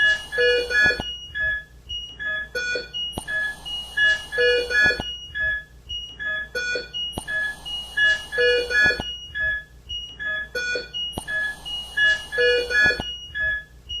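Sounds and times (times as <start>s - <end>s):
patient monitor beeps: 0.0s - 14.0s.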